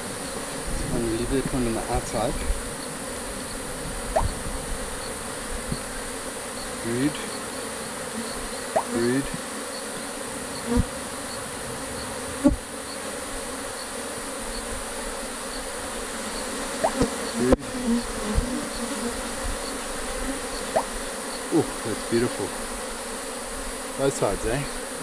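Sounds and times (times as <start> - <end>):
honey bees buzzing: 0.0 - 25.0.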